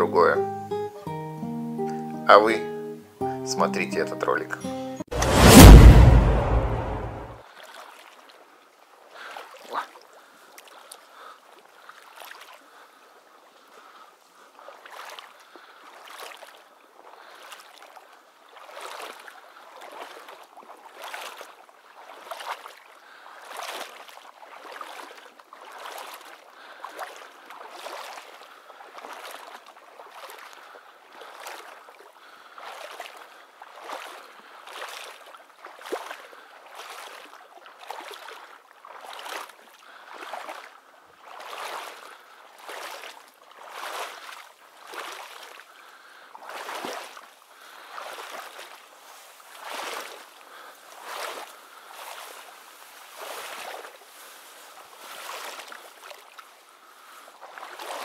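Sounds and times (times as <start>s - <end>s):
wading steps through marsh water: 7.5s - 58.0s.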